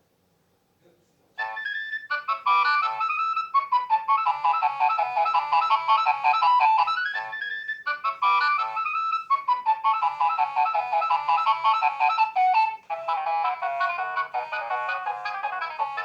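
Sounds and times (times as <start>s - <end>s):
mobile phone ringtone melody: 1.4s - 16.0s.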